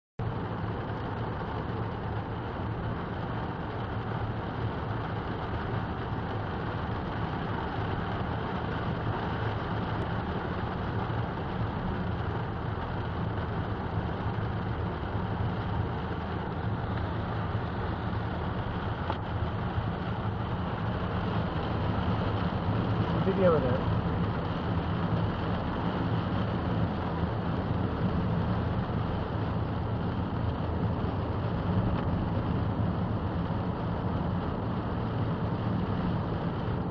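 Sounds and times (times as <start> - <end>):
car engine: 0.2 - 36.9
rain on car bodywork: 0.2 - 36.9
tyres humming on wet road: 0.2 - 36.9.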